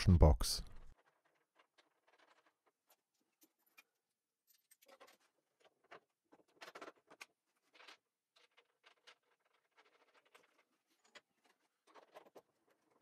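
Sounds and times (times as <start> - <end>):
wooden parts scraping and knocking: 0.7 - 13.0.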